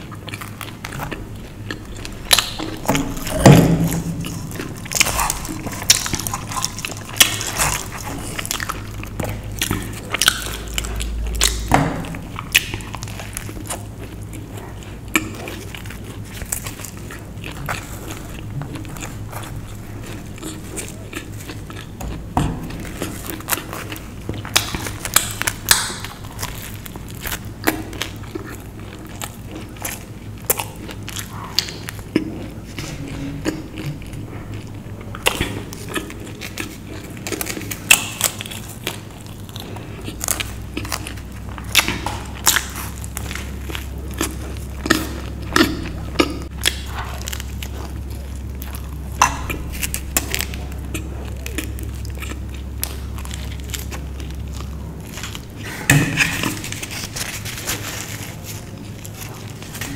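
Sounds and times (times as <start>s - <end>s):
crunchy chewing: 0.0s - 59.9s
low hum: 0.0s - 59.9s.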